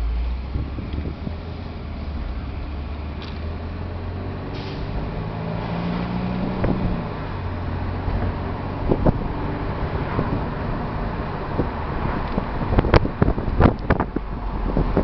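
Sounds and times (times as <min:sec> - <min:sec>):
car engine accelerating: 0:00.0 - 0:15.0
road and wind noise: 0:00.0 - 0:15.0.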